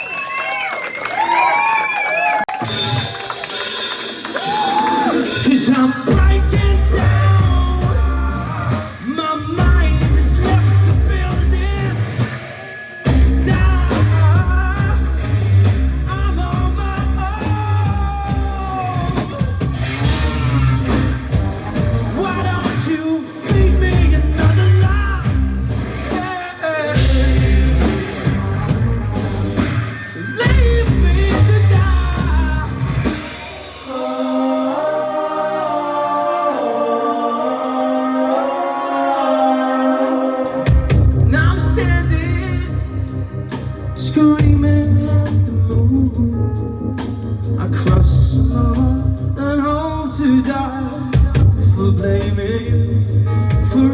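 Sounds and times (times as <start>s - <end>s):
rock band playing: 2.5s - 34.1s, 40.1s - 53.9s
drum kit: 2.5s - 34.6s, 39.2s - 53.9s
person singing: 4.4s - 25.5s, 26.1s - 33.2s, 33.8s - 53.9s.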